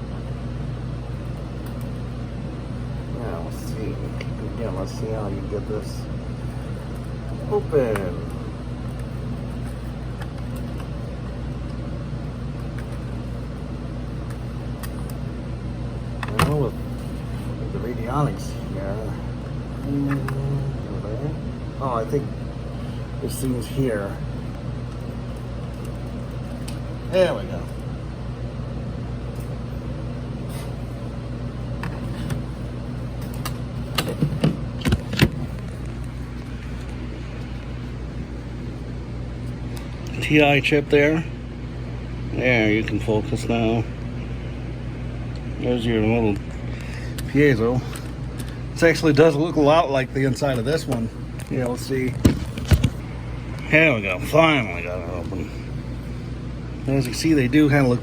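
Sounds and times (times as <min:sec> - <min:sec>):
low background hum: 0:00.0 - 0:58.0.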